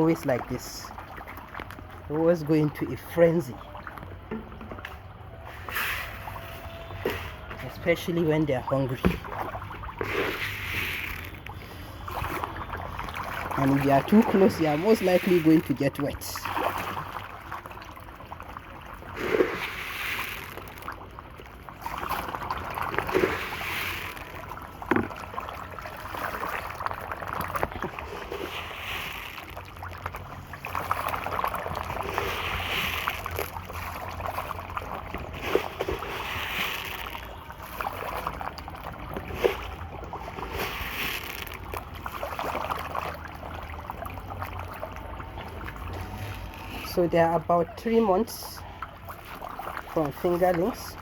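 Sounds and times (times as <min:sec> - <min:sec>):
fish splashing in water: 0:00.0 - 0:51.0.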